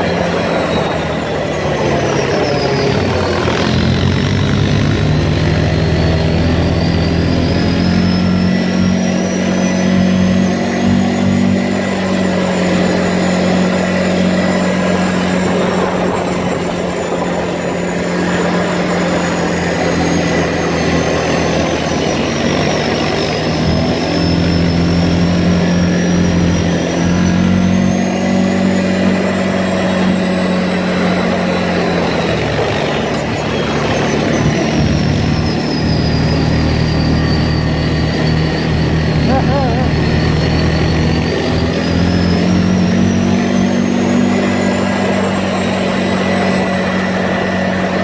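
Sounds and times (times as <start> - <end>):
atv engine running: 0.0 - 48.0
high whine sliding in pitch: 0.0 - 48.0.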